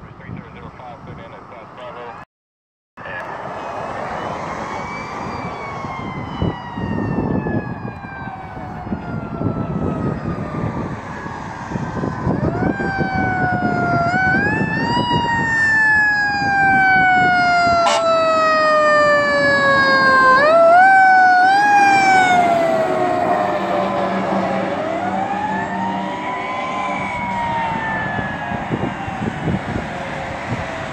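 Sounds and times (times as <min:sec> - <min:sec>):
road traffic rumble: 0:00.0 - 0:02.2, 0:03.0 - 0:30.9
fire engine siren wailing: 0:03.2 - 0:30.9.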